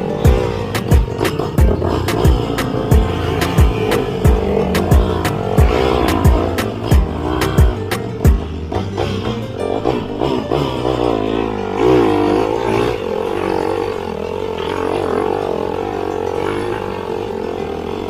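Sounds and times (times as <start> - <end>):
off-road motorcycle engine revving: 0.0 - 18.0.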